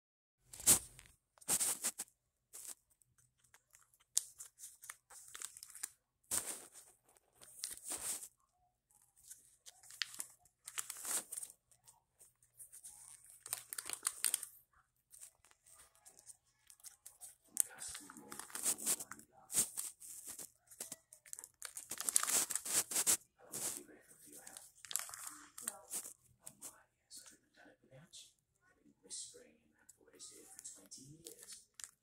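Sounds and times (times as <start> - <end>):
plastic pages crinkling: 0.5 - 8.4, 9.0 - 27.3, 30.2 - 32.0.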